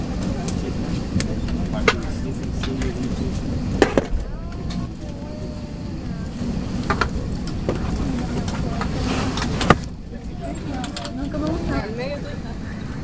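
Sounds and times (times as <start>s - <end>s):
airplane cabin low rumble: 0.0s - 13.0s
faint voices: 0.0s - 13.0s.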